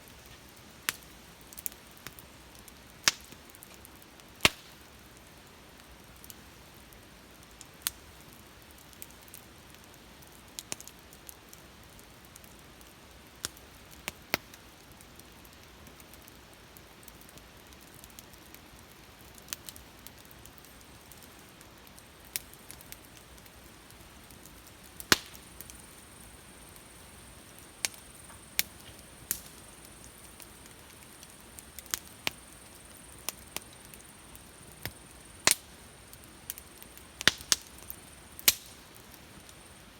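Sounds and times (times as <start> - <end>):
campfire crackling: 0.0 - 39.9
faint hiss: 0.0 - 39.9.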